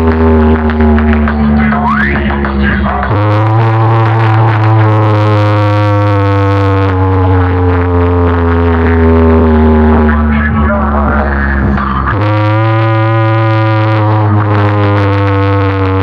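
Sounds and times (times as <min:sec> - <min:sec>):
loud electronic drone: 0:00.0 - 0:16.0.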